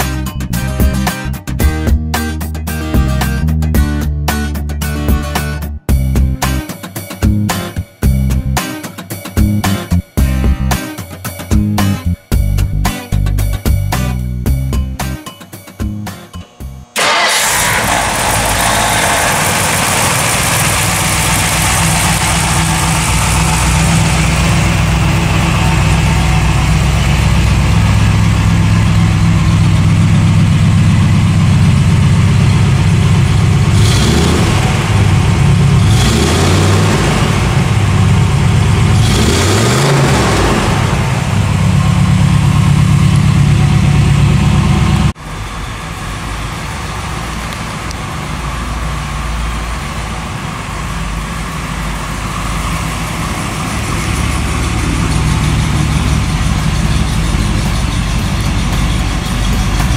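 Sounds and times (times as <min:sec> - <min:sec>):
car engine idling and revving: 0:00.0 - 0:08.6, 0:09.4 - 0:10.9, 0:15.8 - 0:59.9.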